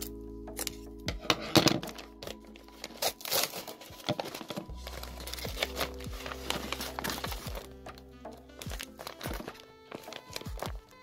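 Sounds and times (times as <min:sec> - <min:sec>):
background music: 0:00.0 - 0:11.0
paper crinkling: 0:00.0 - 0:11.0.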